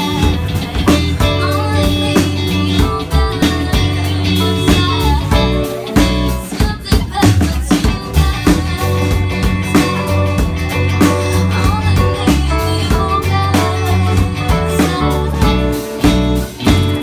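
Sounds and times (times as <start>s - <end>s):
drum kit steady beat: 0.0s - 17.0s
electric bass: 0.0s - 17.0s
electric guitar: 0.0s - 17.0s
keyboard: 0.0s - 17.0s
woman singing: 0.0s - 17.0s.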